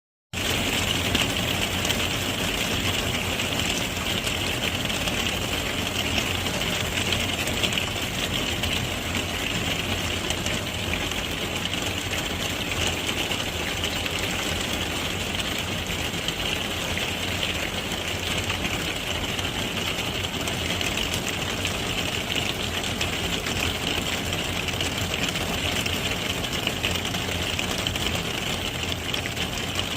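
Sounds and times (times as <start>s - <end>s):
hailstones on a roof: 0.4s - 29.9s.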